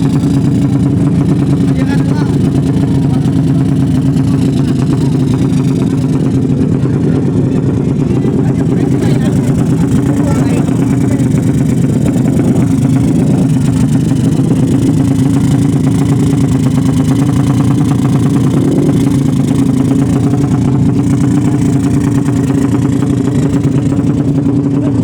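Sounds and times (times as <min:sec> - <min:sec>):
motorcycle engine running loud: 0:00.0 - 0:25.0.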